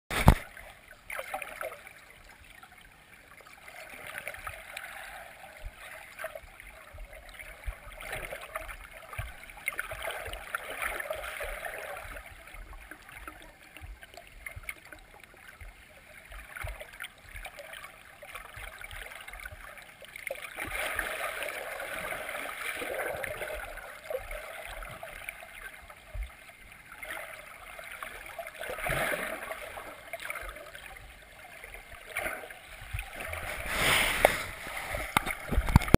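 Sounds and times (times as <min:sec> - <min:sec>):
muffled underwater gurgling rush: 0:00.1 - 0:35.9.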